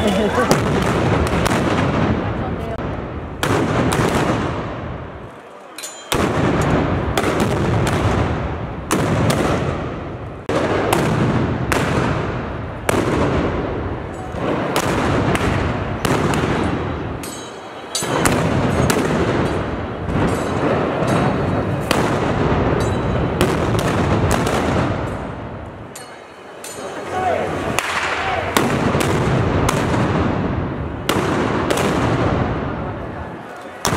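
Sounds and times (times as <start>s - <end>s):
gunshots with long echo: 0.2s - 5.2s, 6.1s - 17.3s, 18.0s - 25.6s, 27.7s - 33.0s.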